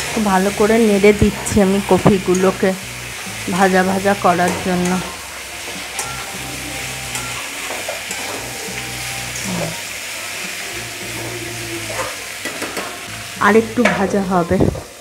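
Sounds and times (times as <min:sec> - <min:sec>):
vegetables sizzling in hot oil: 0:00.0 - 0:15.0
metal spatula stirring in pan: 0:00.1 - 0:13.2.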